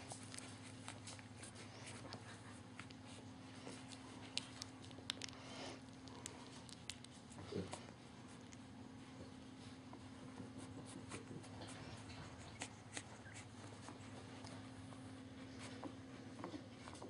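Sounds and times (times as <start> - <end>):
puppies rustling on bedding: 0.0 - 17.0
steady low hum: 0.0 - 17.0.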